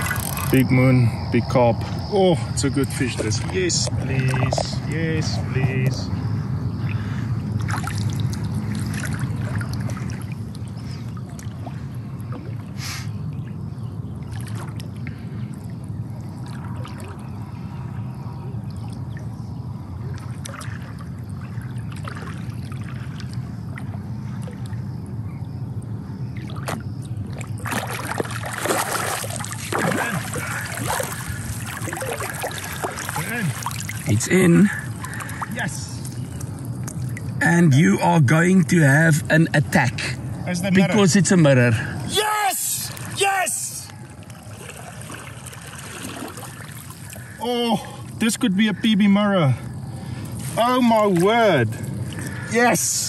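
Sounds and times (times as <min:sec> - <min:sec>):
water splashing and trickling: 0:00.0 - 0:01.0, 0:02.2 - 0:06.1, 0:06.8 - 0:53.0.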